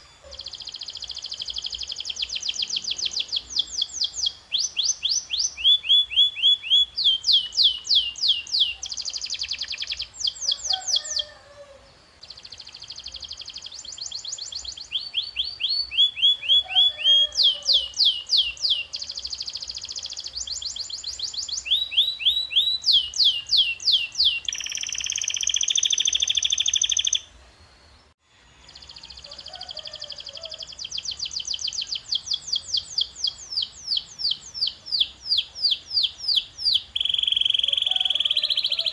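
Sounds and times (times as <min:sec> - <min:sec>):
canary singing: 0:00.0 - 0:27.4, 0:28.7 - 0:38.9.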